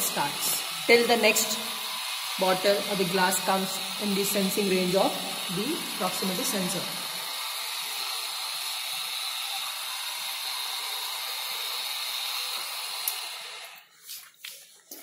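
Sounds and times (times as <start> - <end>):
conveyor motor hissing: 0.0 - 13.8.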